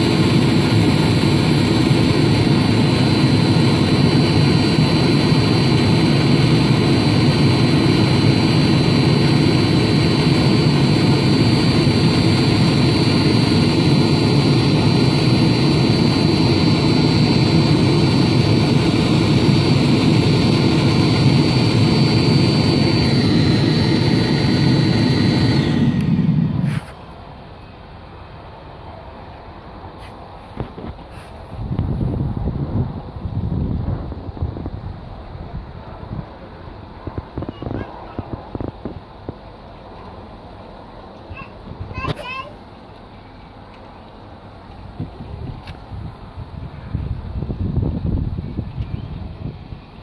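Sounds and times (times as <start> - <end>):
diesel heater burner roar: 0.0 - 41.2, 43.7 - 50.0
high fan whine: 0.0 - 50.0.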